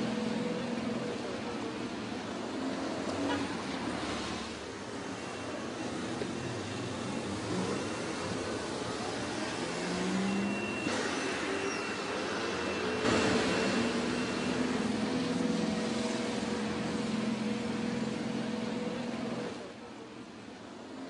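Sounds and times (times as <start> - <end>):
traffic hum of passing vehicles: 0.0 - 21.0.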